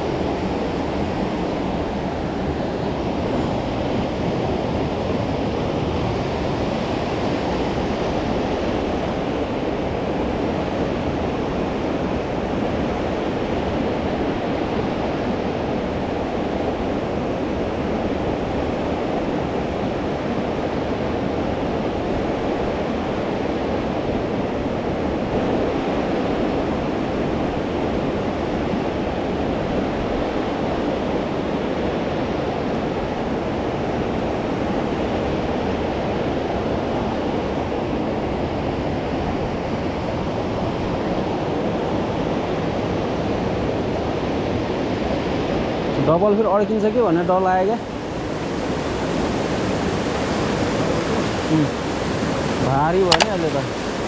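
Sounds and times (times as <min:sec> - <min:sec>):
river rushing through rapids: 0:00.0 - 0:54.0.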